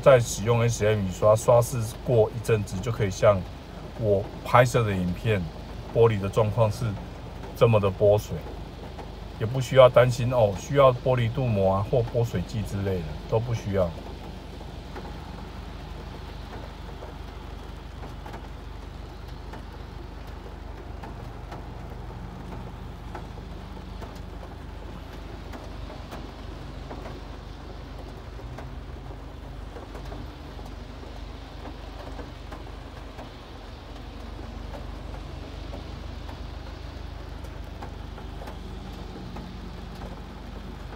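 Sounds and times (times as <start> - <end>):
faint raindrop ticks: 0.0 - 40.9
rain on car windshield: 0.0 - 40.9.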